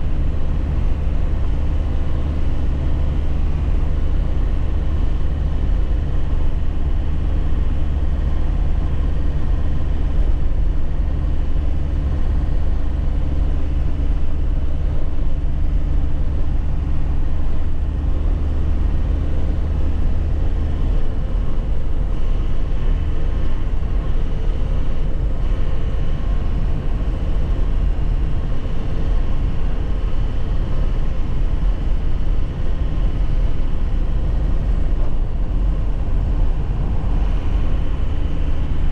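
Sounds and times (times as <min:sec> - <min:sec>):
low road rumble: 0:00.0 - 0:38.9
truck engine running: 0:00.0 - 0:38.9.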